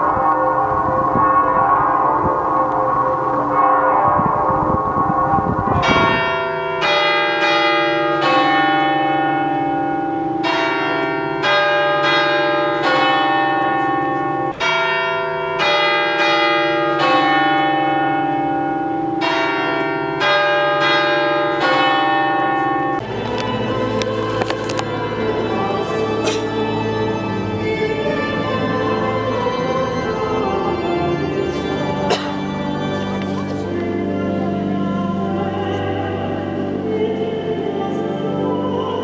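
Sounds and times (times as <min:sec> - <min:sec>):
church bells ringing: 0:00.0 - 0:39.0
organ music: 0:00.0 - 0:39.0.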